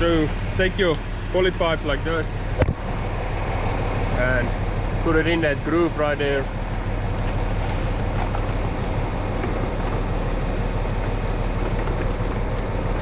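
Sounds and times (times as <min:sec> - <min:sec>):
tractor engine running: 0:00.0 - 0:13.0
pipe winder mechanical clatter: 0:02.0 - 0:13.0.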